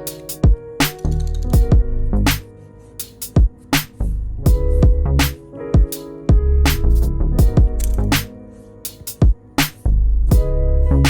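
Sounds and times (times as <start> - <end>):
electronic beat with bass and melody: 0.0 - 11.0.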